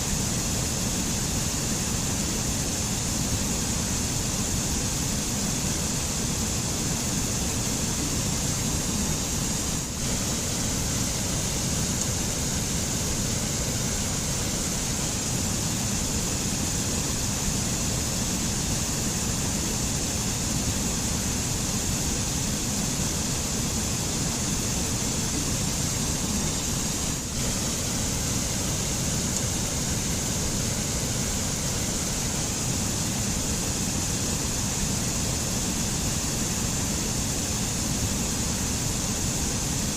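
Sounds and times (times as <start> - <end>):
stream rushing over rocks: 6.2 - 39.9.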